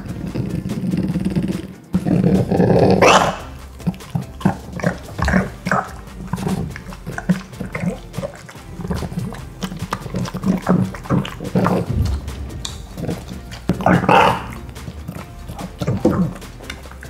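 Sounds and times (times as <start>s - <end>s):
dog snuffling: 0.0s - 17.0s
dog chewing wetly: 2.0s - 17.0s.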